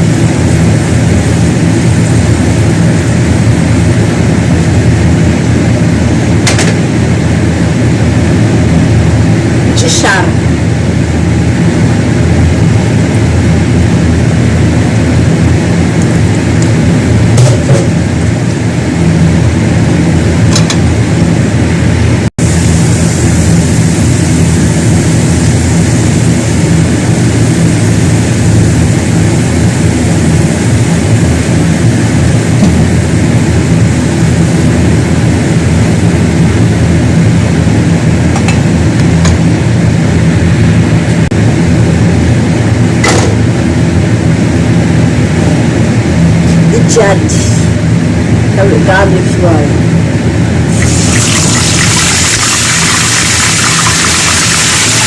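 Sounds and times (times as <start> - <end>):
loud mechanical hum: 0.0 - 55.0.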